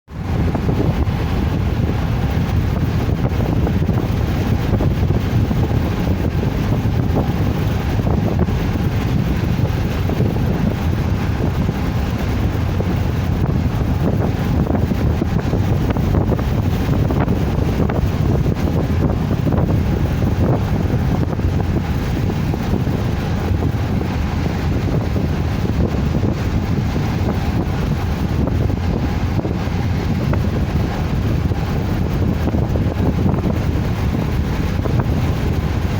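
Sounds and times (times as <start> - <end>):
moving car rumble: 0.1 - 35.9
wind buffeting microphone: 0.1 - 35.9.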